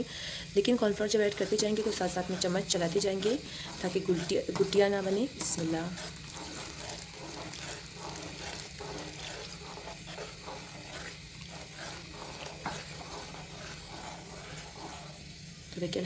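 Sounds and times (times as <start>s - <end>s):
spoon stirring soup: 0.9s - 15.8s.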